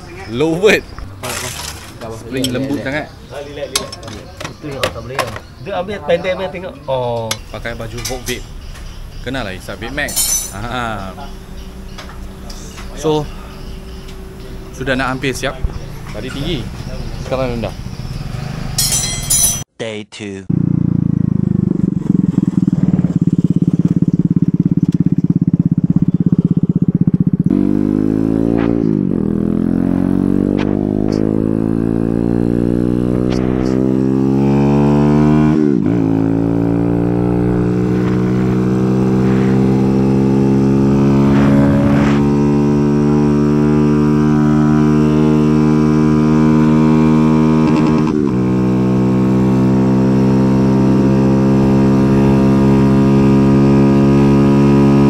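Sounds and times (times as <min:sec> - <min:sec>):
motorcycle engine revving: 0:00.0 - 0:19.6, 0:20.5 - 0:55.0.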